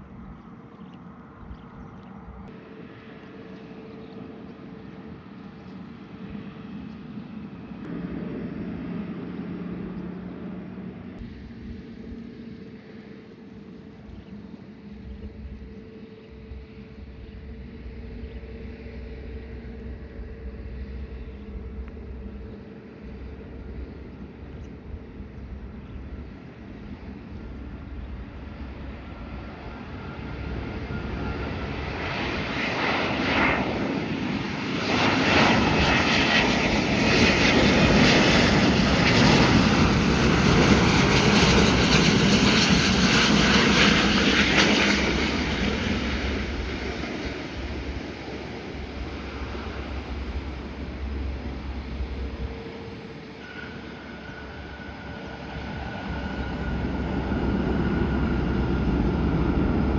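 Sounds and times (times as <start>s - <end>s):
jet airliner engine roar: 0.0s - 59.9s.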